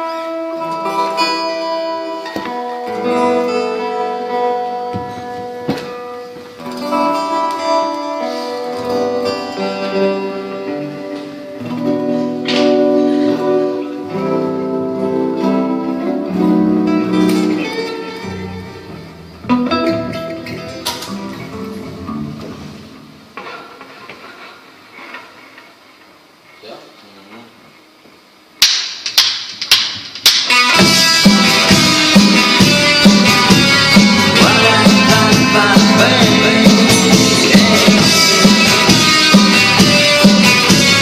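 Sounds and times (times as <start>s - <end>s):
plucked guitar: 0.0s - 25.7s, 29.2s - 41.0s.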